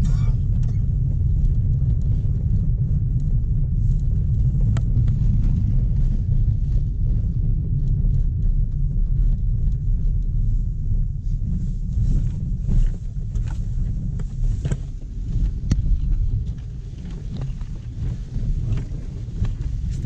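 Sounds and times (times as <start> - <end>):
car tyres rumbling on gravel: 0.0 - 20.0
knocks and rattles from rough road: 0.0 - 20.0.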